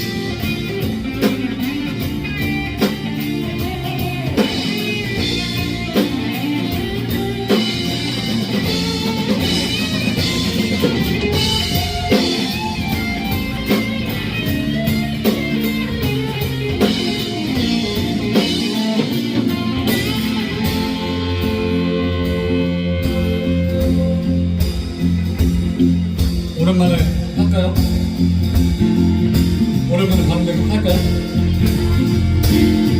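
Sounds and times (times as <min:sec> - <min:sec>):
drum kit: 0:00.0 - 0:32.9
electric guitar: 0:00.0 - 0:32.9.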